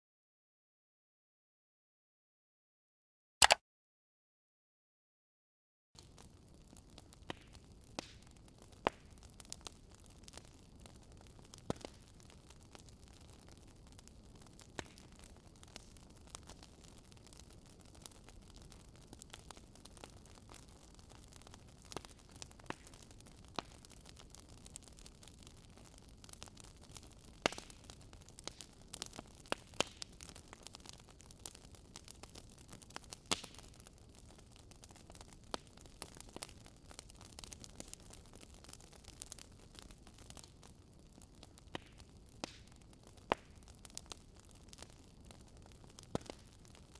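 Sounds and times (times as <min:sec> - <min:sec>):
low noise of flames: 0:06.0 - 0:46.9
wood crackling and popping: 0:06.0 - 0:46.9.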